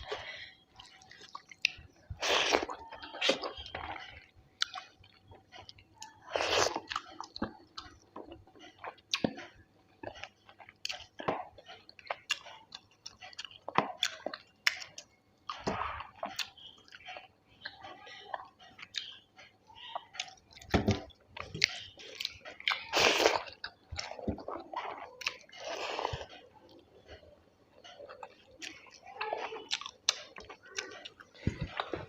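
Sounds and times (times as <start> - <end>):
food crunching: 0.0 - 32.0
wet chewing and lip smacking: 0.0 - 32.0.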